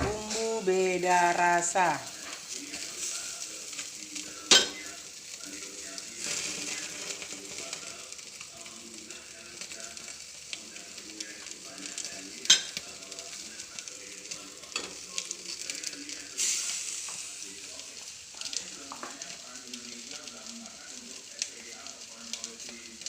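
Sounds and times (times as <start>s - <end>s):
fish sizzling on a grill: 0.0s - 23.0s.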